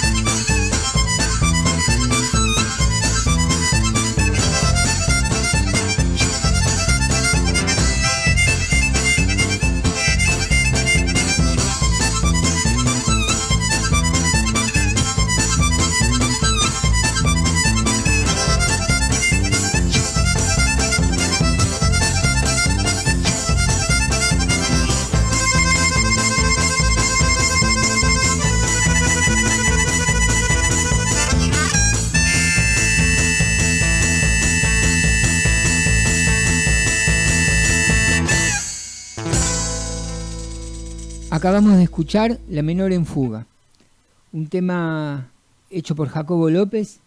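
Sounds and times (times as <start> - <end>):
percussion beat: 0.0 - 41.9
harmonica melody: 0.0 - 42.9
bass: 0.0 - 43.6
guitar: 0.0 - 44.0.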